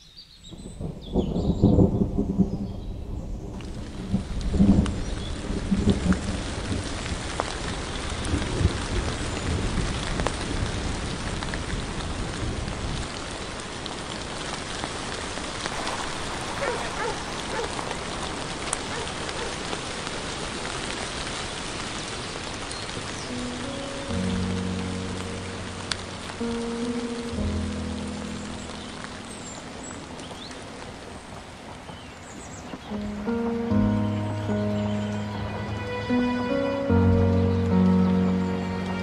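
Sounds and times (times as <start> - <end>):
steady rain falling: 0.0 - 39.0
thunder rumbling: 0.5 - 39.0.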